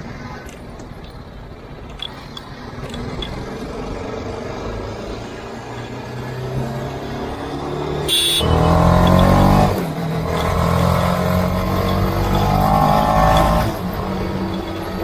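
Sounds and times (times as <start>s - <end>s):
motorcycle engine revving: 2.9s - 15.0s.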